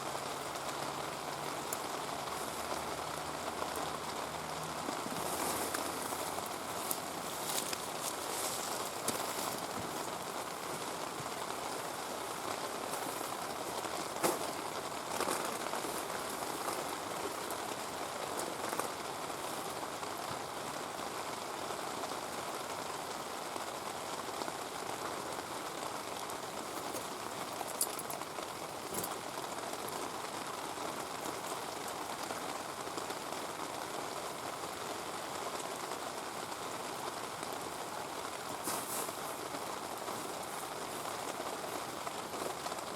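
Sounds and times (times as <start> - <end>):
heavy rain hissing: 0.0 - 42.9.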